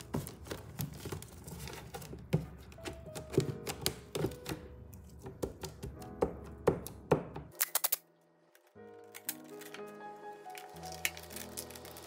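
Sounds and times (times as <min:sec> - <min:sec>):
soft background music: 0:00.0 - 0:07.5, 0:08.7 - 0:12.0.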